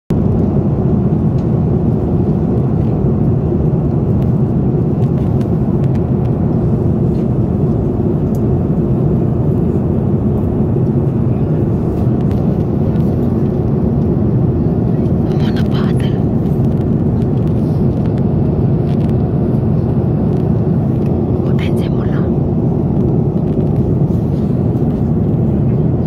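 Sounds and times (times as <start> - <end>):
jet airliner cabin noise: 0.1 - 26.0.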